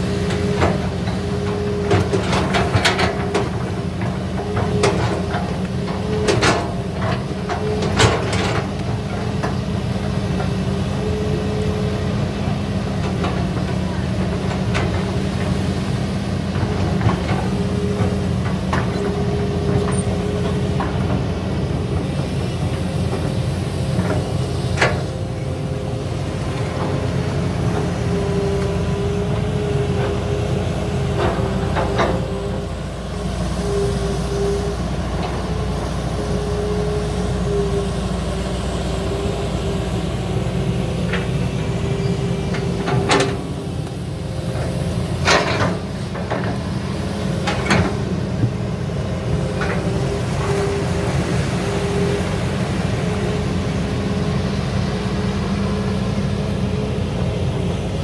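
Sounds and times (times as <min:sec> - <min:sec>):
excavator diesel engines: 0:00.0 - 0:58.0.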